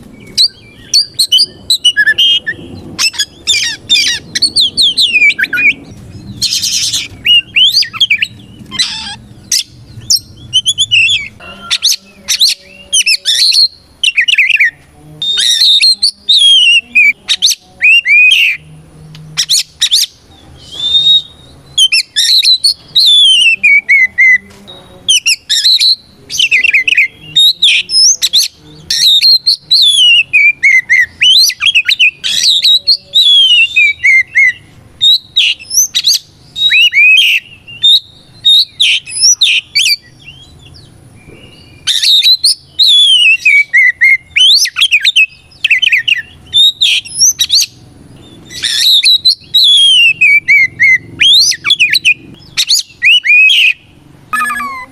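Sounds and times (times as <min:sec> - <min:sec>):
bird singing loudly: 0:00.0 - 0:54.9.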